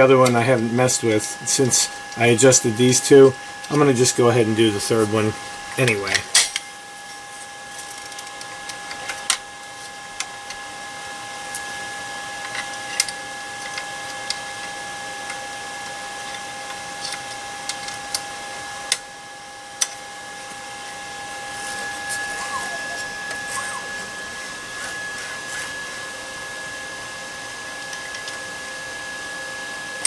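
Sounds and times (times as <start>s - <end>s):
steady high-pitched hum: 0.0s - 30.0s.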